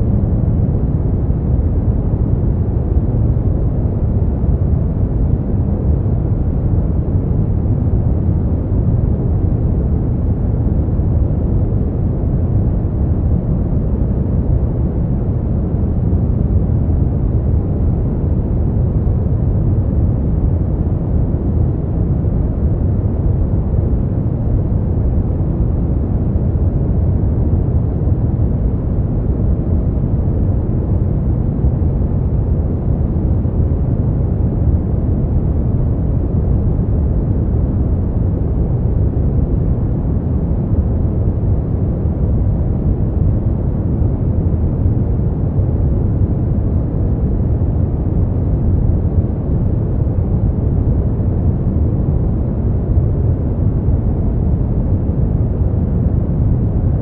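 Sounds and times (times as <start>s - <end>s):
deep rumbling brown noise: 0.0s - 57.0s.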